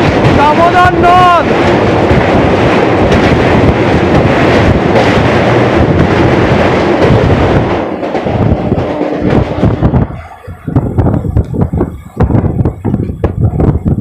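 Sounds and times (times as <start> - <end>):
train wheels rumbling on bridge: 0.0 - 14.0
wind rushing: 0.0 - 14.0.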